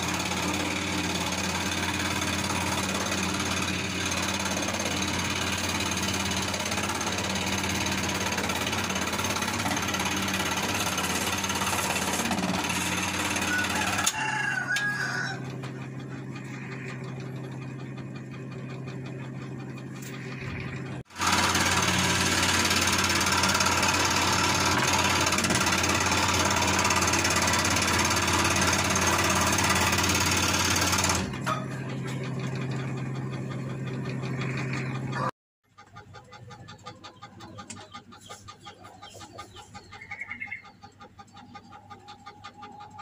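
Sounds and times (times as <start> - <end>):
scroll saw cutting wood: 0.0 - 35.3, 36.0 - 43.0.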